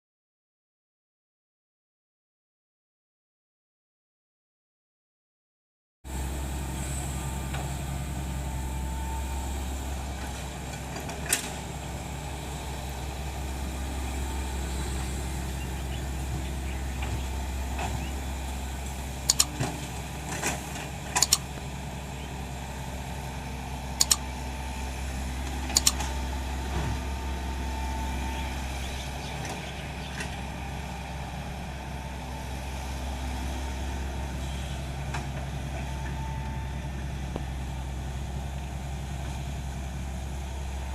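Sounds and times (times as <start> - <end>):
excavator diesel engine running: 6.1 - 40.9.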